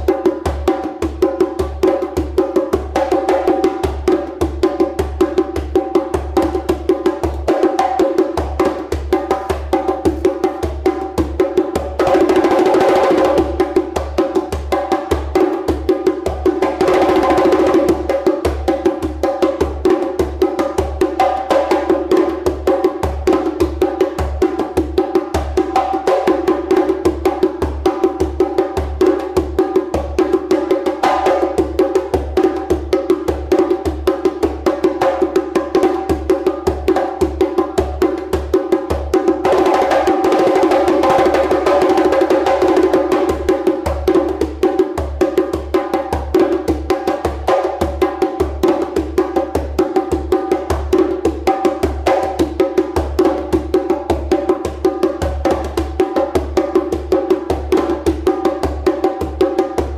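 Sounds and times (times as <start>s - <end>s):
hand drum struck by hands: 0.0s - 59.9s.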